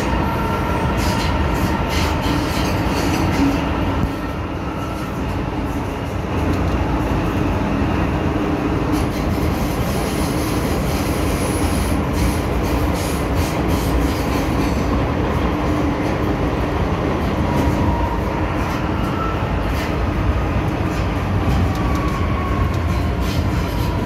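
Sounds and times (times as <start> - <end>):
train rumbling through tunnel: 0.0 - 24.0
wheels rumbling on rail: 0.0 - 24.0.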